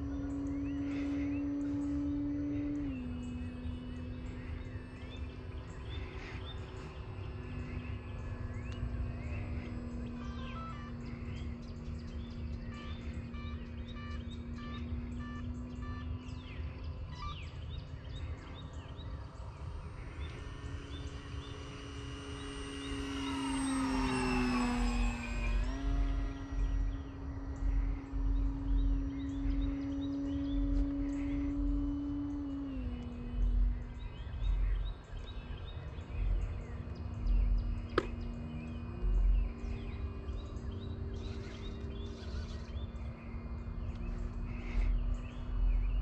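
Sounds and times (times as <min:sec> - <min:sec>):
birds chirping: 0:00.0 - 0:46.0
model airplane motor whining: 0:00.0 - 0:46.0.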